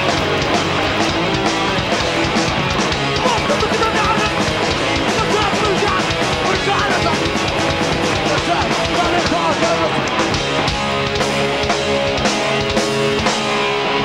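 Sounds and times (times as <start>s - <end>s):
punk band playing live: 0.0s - 14.0s.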